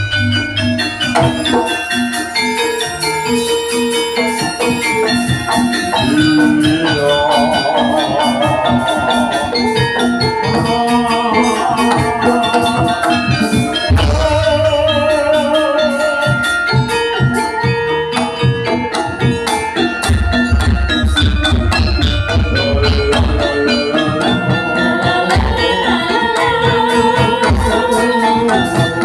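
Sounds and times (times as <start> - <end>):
ringing metal percussion: 0.0 - 29.0
steady drumming: 0.0 - 29.0.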